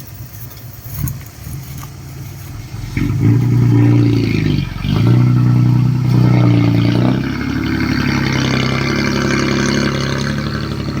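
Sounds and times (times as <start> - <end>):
excavator diesel engine humming: 0.0 - 11.0.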